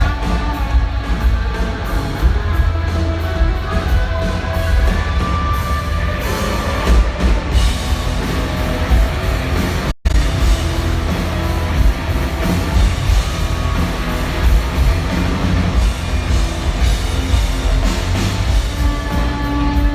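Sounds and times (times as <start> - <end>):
bass guitar: 0.0 - 19.9
distorted electric guitar: 0.0 - 19.9
drums: 0.0 - 19.9.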